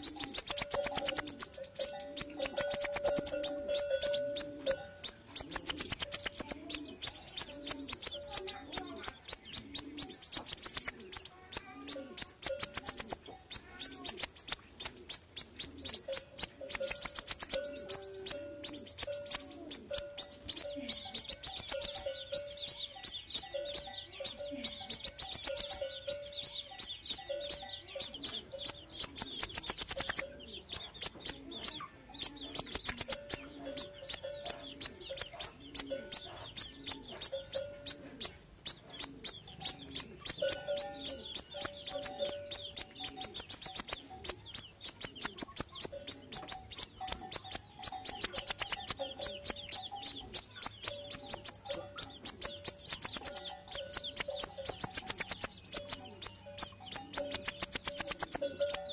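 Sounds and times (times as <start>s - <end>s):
high sharp bird chirps: 0.0s - 58.9s
lower whistled bird notes: 0.0s - 58.9s.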